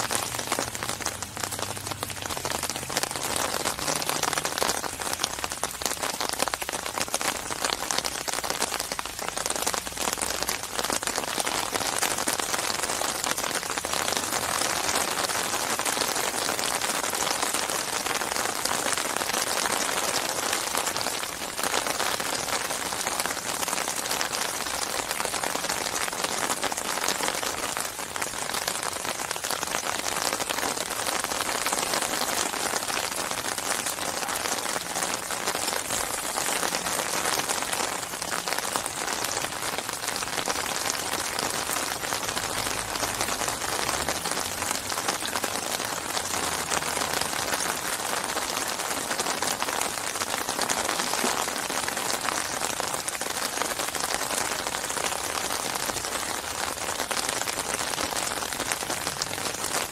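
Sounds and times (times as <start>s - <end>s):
rain pattering on a lake: 0.0s - 59.9s.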